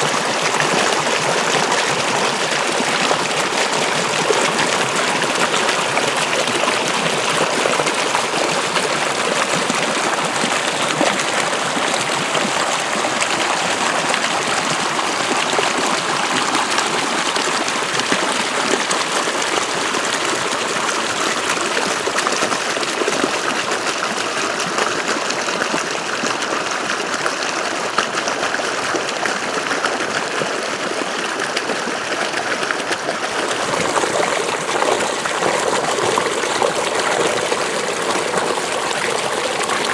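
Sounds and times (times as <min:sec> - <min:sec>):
water flowing along a ditch: 0:00.0 - 0:39.9.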